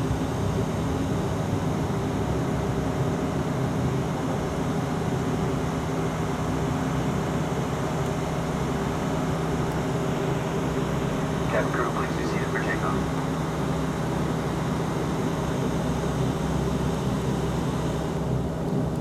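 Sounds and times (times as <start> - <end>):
turboprop engines droning: 0.0 - 19.0.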